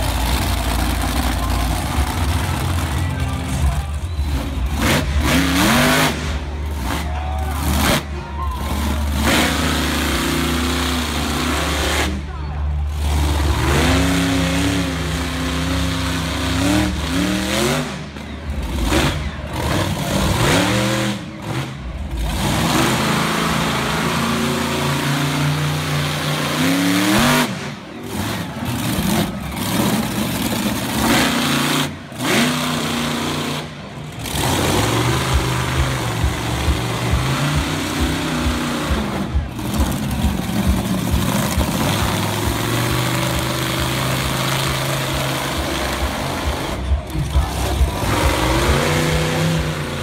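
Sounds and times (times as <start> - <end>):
truck engine revving: 0.0 - 50.0.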